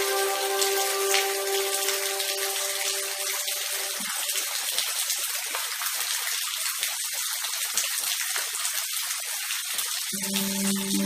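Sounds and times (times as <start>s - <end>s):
heavier raindrops: 0.0s - 8.5s, 9.4s - 11.0s
steady rain falling: 0.0s - 11.0s.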